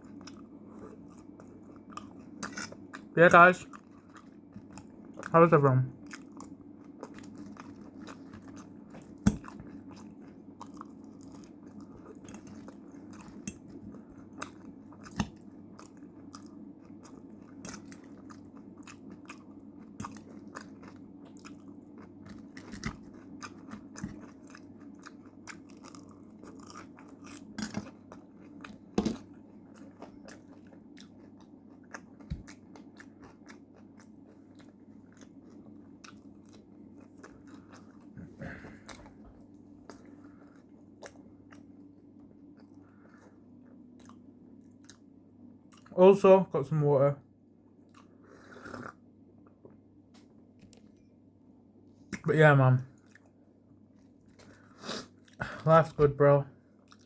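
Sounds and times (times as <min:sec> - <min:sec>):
person chewing and crunching food: 0:00.0 - 0:46.0, 0:47.6 - 0:51.2, 0:52.9 - 0:56.1, 0:56.7 - 0:57.0.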